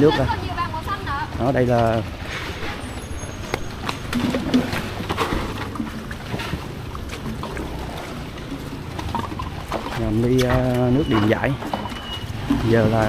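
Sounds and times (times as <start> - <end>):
runners footsteps: 0.0 - 13.0.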